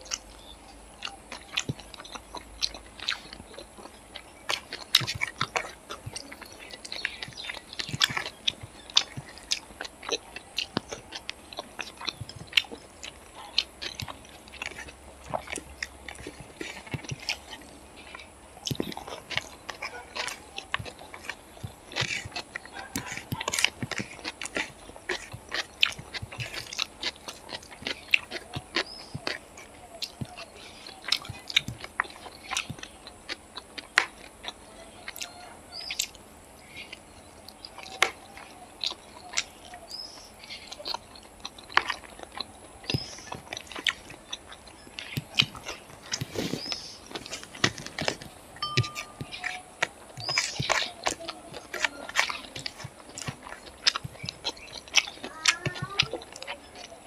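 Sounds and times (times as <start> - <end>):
chewing with mouth clicks: 0.0 - 57.0.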